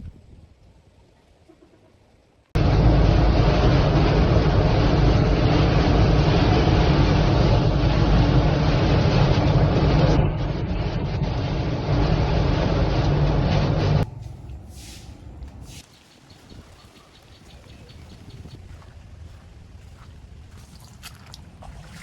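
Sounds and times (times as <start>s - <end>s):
storm wind buffeting microphone: 2.6s - 22.0s.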